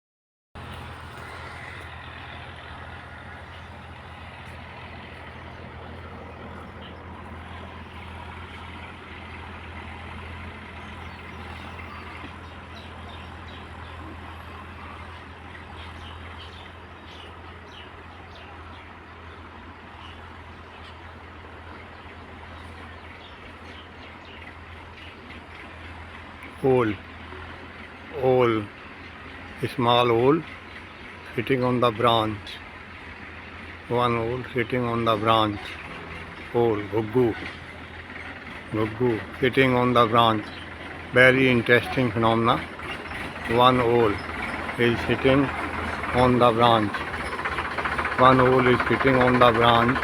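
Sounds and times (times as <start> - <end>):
constant low hum: 0.6 - 50.0.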